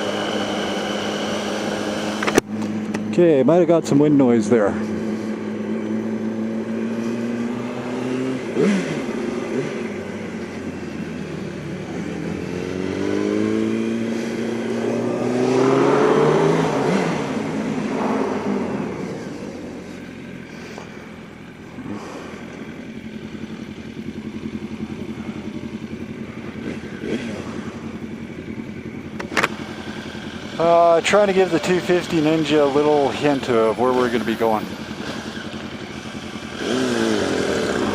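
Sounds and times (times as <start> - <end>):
motorcycle accelerating: 0.0 - 37.9
motorcycle engines running: 0.0 - 37.9.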